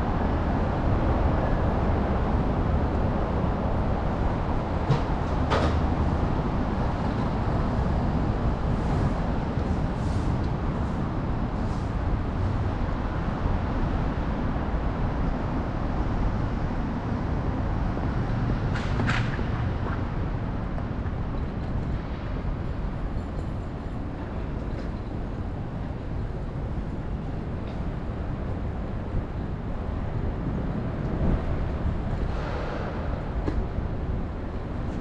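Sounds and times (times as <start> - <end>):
city road traffic: 0.0 - 35.0
wind rumble on microphone: 0.0 - 35.0.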